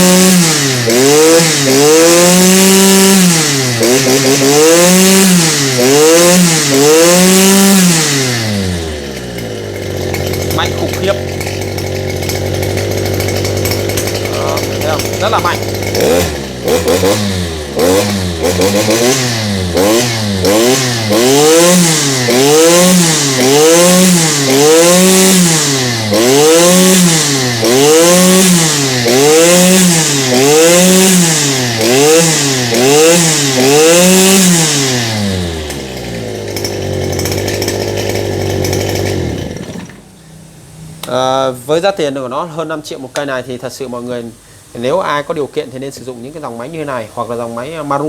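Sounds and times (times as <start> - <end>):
brush cutter engine revving: 0.0 - 41.5, 46.1 - 48.0.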